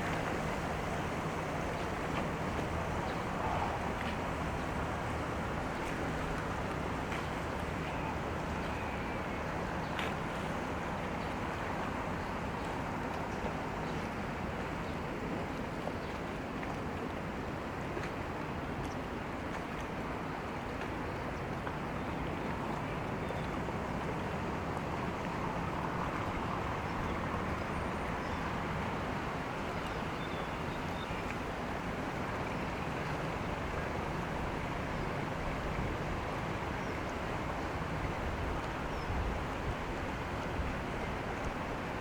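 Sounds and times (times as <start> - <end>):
continuous outdoor hum: 0.0 - 42.0.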